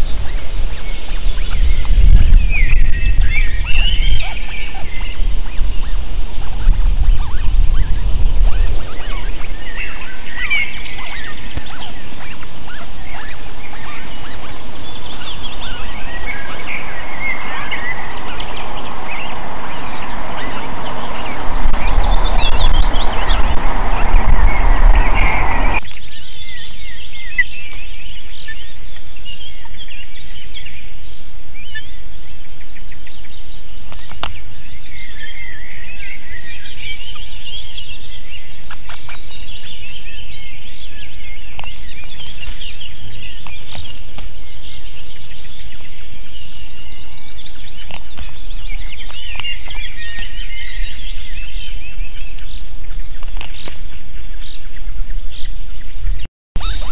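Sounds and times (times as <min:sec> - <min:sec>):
birds chirping: 0:00.0 - 0:56.9
wind noise on microphone: 0:00.0 - 0:56.9.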